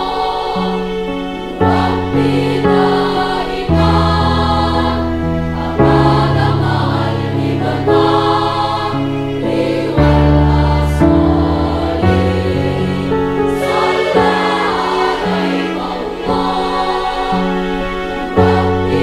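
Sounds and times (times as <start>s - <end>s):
girls' choir singing: 0.0s - 19.0s
sustained low accompaniment notes: 0.0s - 19.0s.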